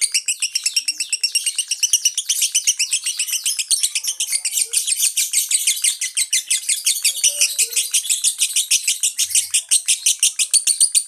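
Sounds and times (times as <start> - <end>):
lovebird shrill chirping: 0.0 - 11.0.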